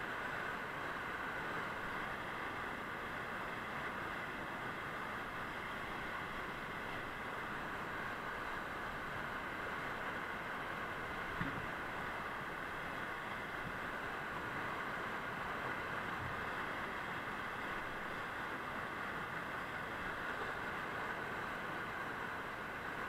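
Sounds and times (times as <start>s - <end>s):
whitewater rapids rushing: 0.0s - 23.0s.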